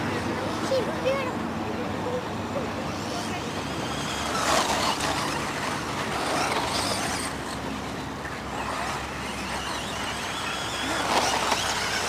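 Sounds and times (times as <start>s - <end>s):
rc buggy motors whining: 0.0s - 12.0s.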